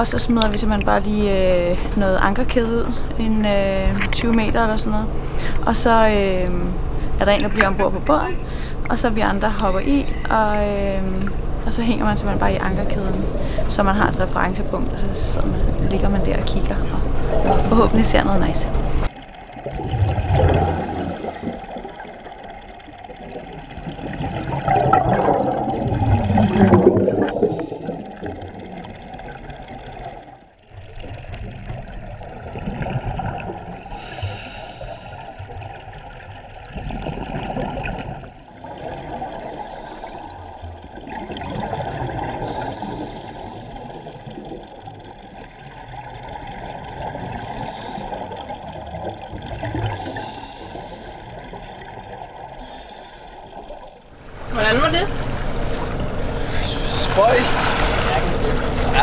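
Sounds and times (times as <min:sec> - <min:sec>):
muffled underwater bubbles gurgling: 0:00.0 - 0:59.0.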